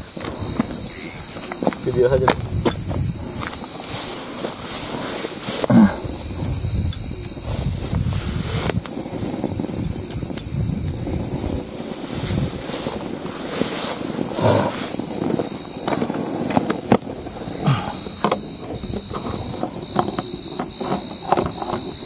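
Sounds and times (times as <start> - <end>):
rustling of grass and leaves: 0.0 - 22.0
wind buffeting microphone: 0.0 - 22.0.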